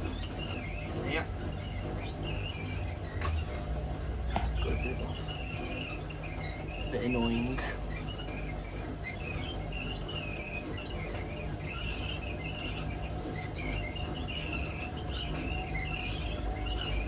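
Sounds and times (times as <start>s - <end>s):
washing machine drum spinning: 0.0s - 17.0s
high squeaks: 0.1s - 17.0s.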